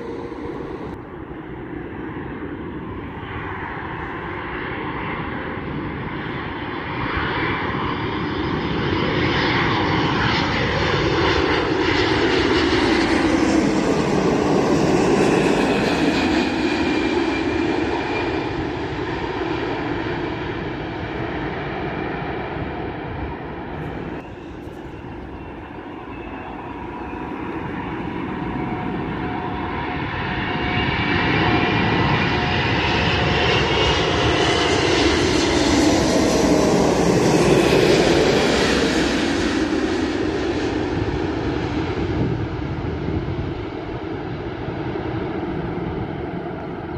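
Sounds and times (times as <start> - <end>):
approaching jet engine whine: 0.0 - 46.9
jet airliner passing overhead: 0.0 - 46.9.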